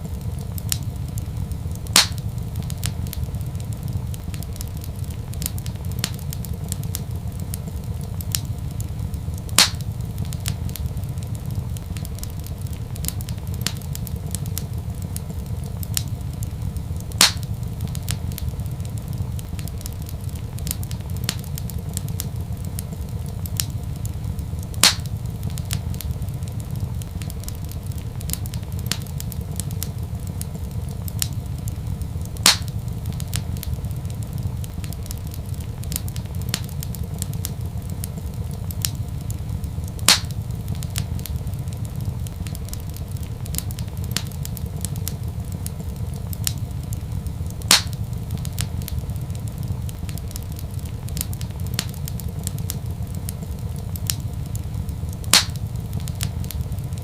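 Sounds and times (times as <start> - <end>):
loud sharp fire pops: 0.0 - 57.0
wood fire crackling: 0.0 - 57.0.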